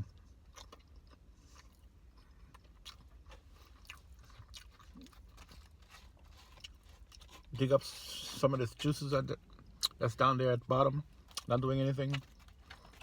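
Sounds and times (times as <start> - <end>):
person chewing crispy food: 0.0 - 10.0, 11.1 - 13.0.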